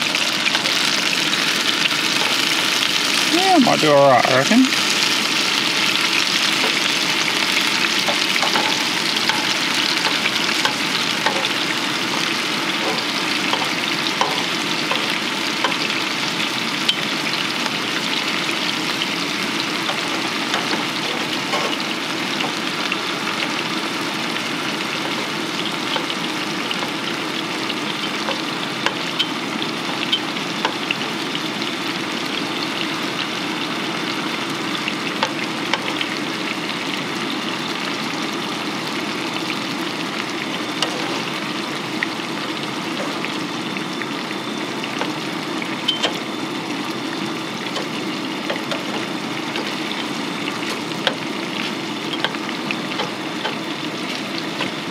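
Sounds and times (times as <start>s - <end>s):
chicken sizzling in oil: 0.0s - 54.9s
oil popping and crackling: 0.0s - 54.9s.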